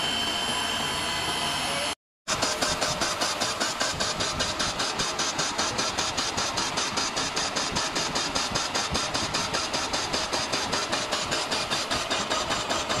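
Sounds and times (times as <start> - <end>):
metal lathe machining: 0.0 - 13.0.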